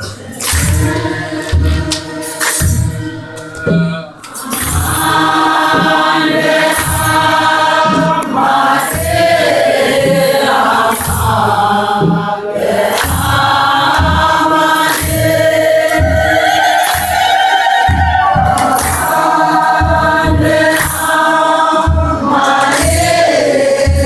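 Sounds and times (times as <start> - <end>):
congregation singing a hymn: 0.0 - 24.0
drum beating steady rhythm: 0.0 - 24.0.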